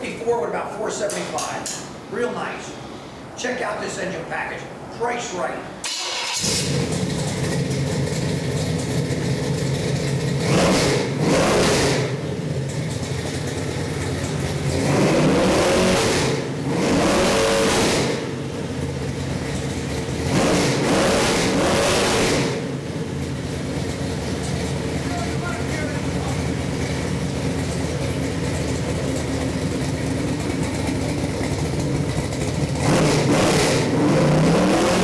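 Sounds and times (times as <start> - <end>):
engine idling and revving: 5.8 - 35.0.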